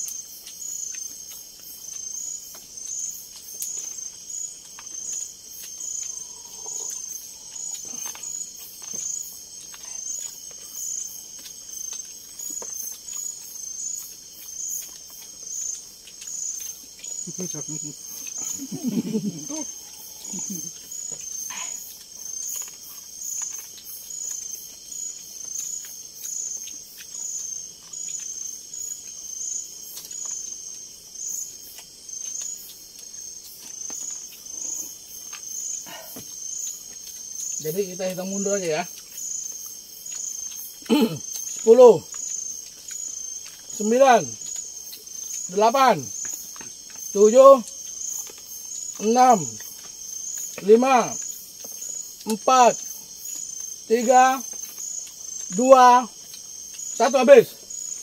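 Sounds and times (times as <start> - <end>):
insects chirping chorus: 0.0 - 58.0.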